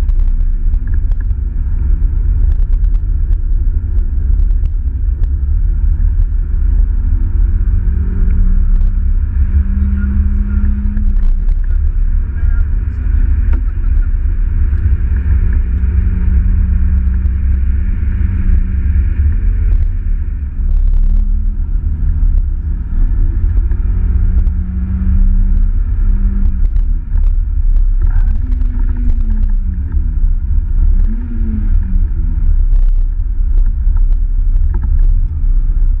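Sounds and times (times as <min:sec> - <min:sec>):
car engine from inside cabin: 0:00.0 - 0:36.0
heavy low rumble: 0:00.0 - 0:36.0.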